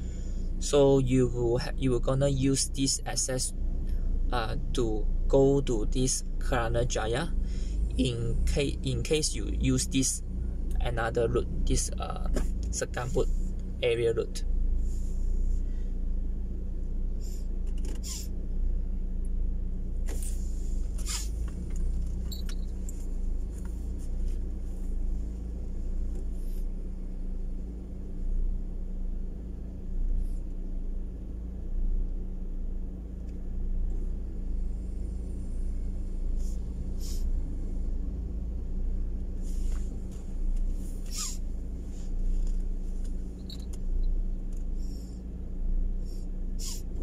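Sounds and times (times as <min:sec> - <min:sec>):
car idling: 0:00.0 - 0:47.0.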